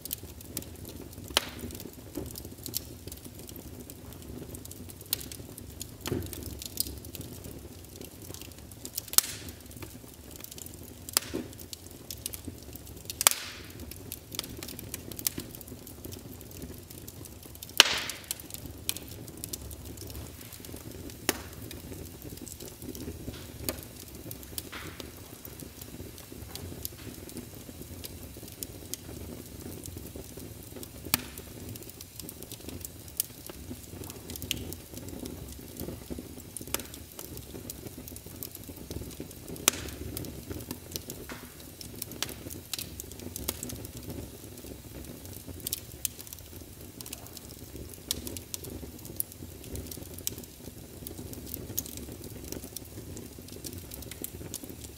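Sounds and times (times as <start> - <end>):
sharp crackling pops: 0.0 - 54.9.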